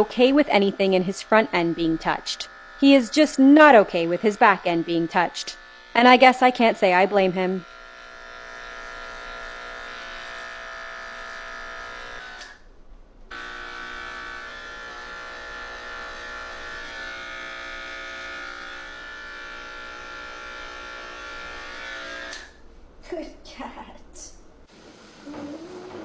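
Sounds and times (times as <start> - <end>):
electric clippers buzzing: 0.0 - 12.6, 13.3 - 22.6.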